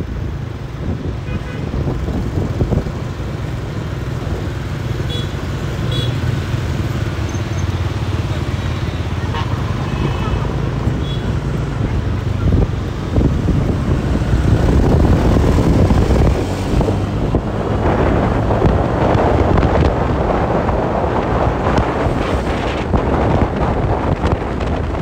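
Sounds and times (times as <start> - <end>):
traffic rumble: 0.0 - 25.0
wind buffeting microphone: 0.7 - 4.8, 8.4 - 25.0.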